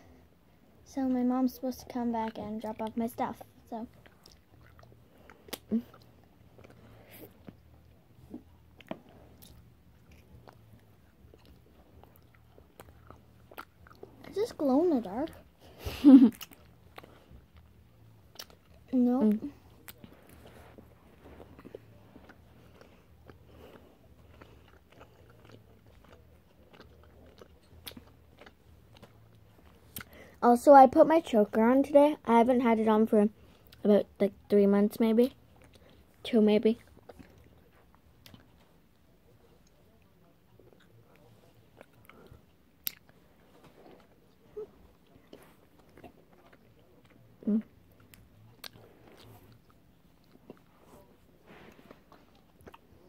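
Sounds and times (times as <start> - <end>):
low steady hum: 0.0 - 53.0
chewing sticky candy: 1.8 - 15.6, 16.2 - 30.4, 35.2 - 53.0.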